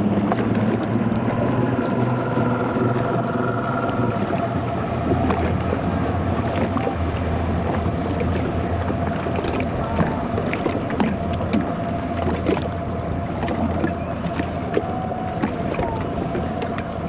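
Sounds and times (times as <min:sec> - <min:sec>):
motorboat engine drone: 0:00.0 - 0:17.0
water noise: 0:00.0 - 0:17.0
wind: 0:00.0 - 0:17.0.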